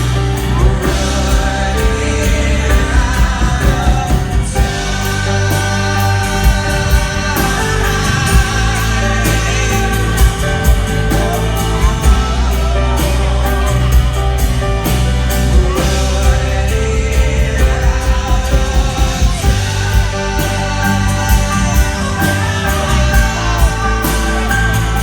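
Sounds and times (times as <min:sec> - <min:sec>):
live rock band playing: 0:00.0 - 0:25.0
person singing: 0:00.0 - 0:25.0.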